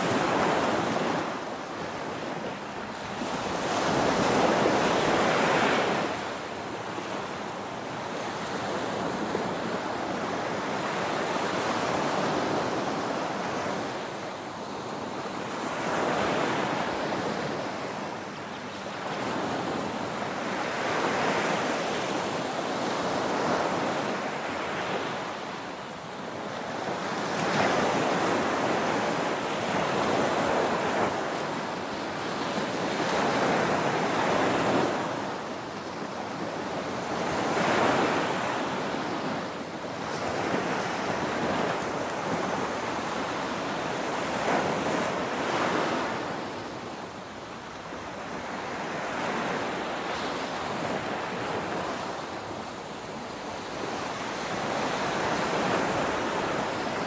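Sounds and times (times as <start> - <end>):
small waves breaking on shore: 0.0 - 57.0.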